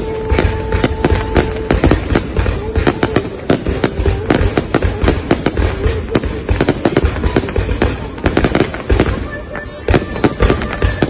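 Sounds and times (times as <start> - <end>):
continuous rumble: 0.0 - 11.0
fireworks bangs and crackles: 0.0 - 11.0.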